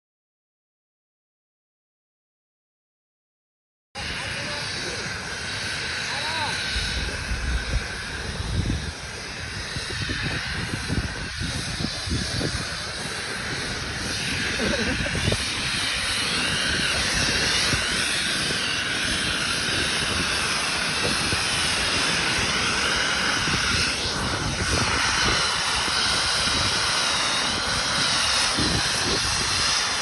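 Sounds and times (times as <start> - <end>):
snowmaking gun blowing air and spray: 4.0 - 30.0
wavering high whine: 4.0 - 30.0.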